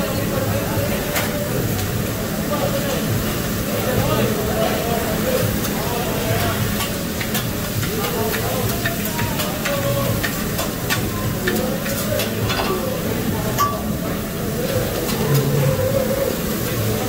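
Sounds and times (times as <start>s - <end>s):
food sizzling on hot griddle: 0.0s - 17.0s.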